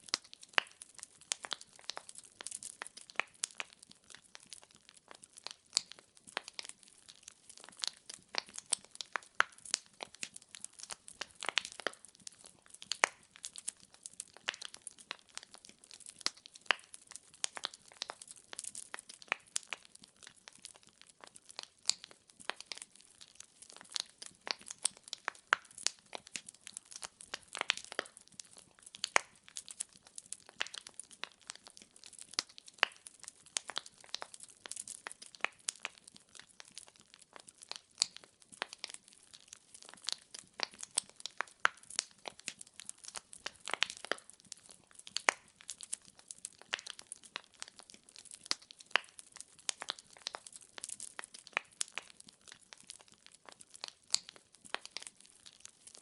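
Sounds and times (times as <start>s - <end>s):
firewood crackling in fireplace: 0.0s - 56.0s.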